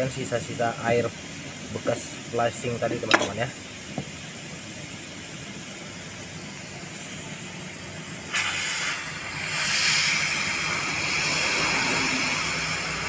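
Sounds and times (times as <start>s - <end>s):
gas hissing out of a pipe: 0.0s - 13.0s.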